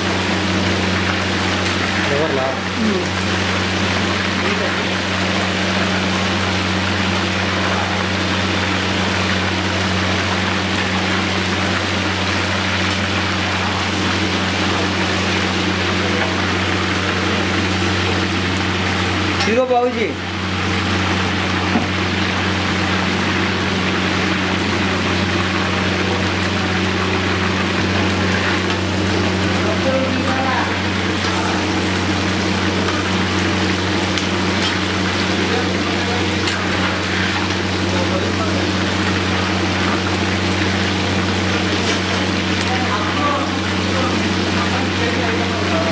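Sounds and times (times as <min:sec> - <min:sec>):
hot oil sizzling: 0:00.0 - 0:45.9.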